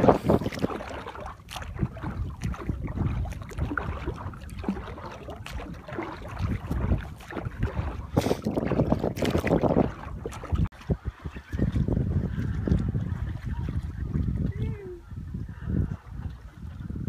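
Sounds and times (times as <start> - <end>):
water splashing against boat: 0.0 - 17.0
wind buffeting microphone: 0.0 - 17.0.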